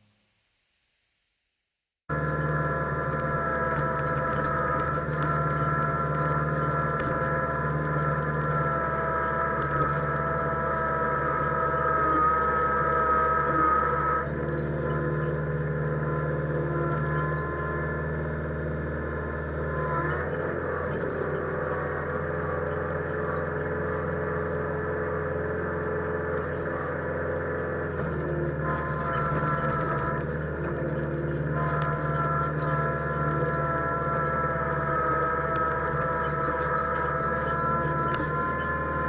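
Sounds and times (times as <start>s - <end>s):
tractor diesel engine running: 2.1s - 39.0s.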